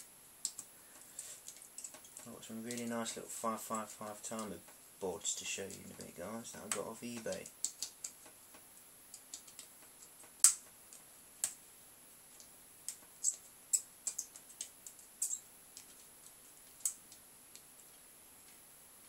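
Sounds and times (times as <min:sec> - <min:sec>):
small clicks and ticks: 0:00.3 - 0:11.6, 0:12.3 - 0:18.7.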